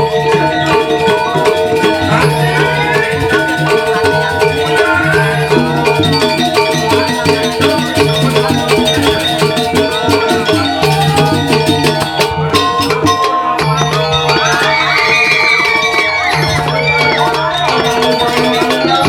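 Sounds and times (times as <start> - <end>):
gamelan metallophones and gongs: 0.0 - 19.0.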